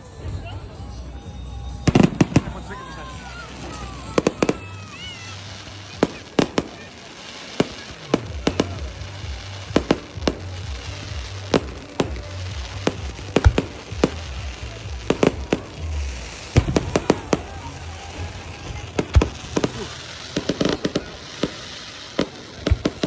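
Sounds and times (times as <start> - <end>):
music with deep bass: 0.0 - 6.7, 7.3 - 21.8
fireworks banging: 0.0 - 23.0.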